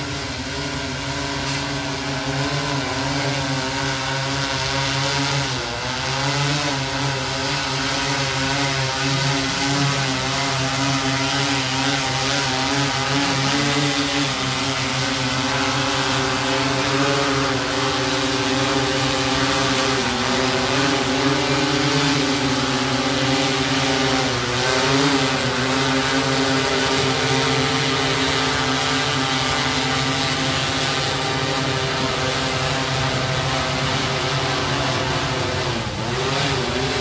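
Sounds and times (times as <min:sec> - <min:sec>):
drone rotor hum: 0:00.0 - 0:37.0.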